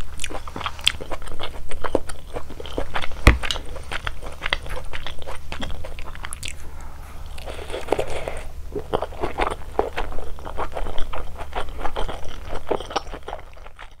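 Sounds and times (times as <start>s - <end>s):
close chewing crunches: 0.0s - 14.0s
low steady hum: 0.0s - 14.0s.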